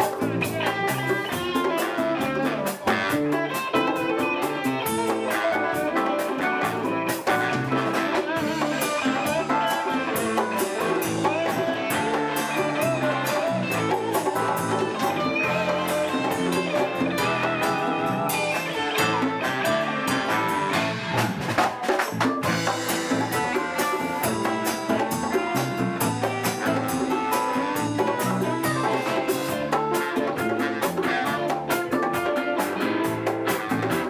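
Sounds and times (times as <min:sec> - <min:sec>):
drum kit and cymbals: 0:00.0 - 0:34.0
electric bass guitar: 0:00.0 - 0:34.0
electric guitar: 0:00.0 - 0:34.0.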